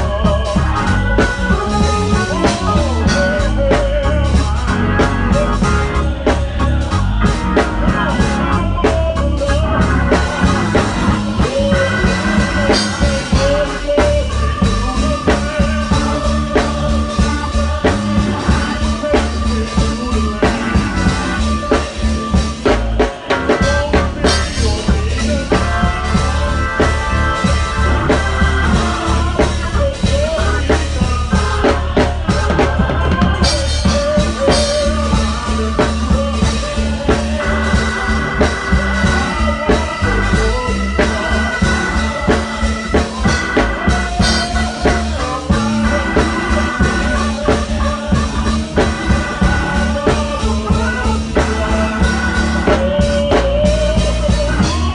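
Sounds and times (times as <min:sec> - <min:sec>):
drum kit beat: 0:00.0 - 0:54.9
live band music: 0:00.0 - 0:54.9.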